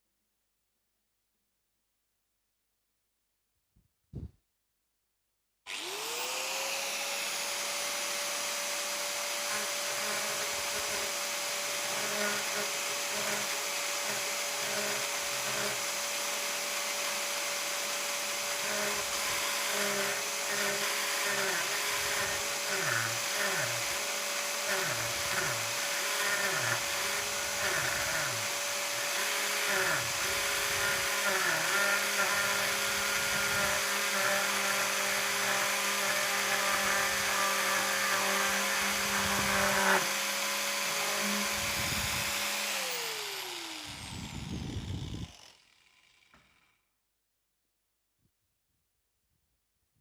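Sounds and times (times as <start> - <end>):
angle grinder cutting wood: 5.7 - 46.8.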